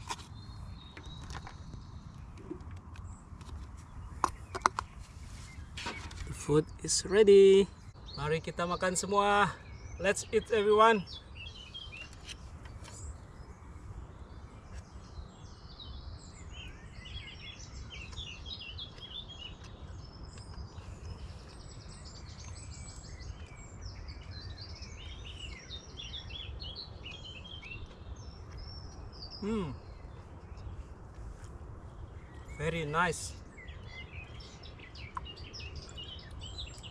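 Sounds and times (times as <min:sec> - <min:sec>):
birds chirping and trilling: 0:00.0 - 0:36.9.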